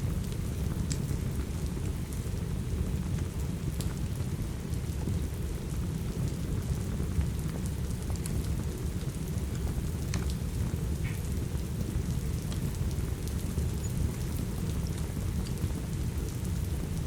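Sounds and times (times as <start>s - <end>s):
heavy rain rumbling: 0.0s - 17.0s
wood fire crackling: 0.0s - 17.0s.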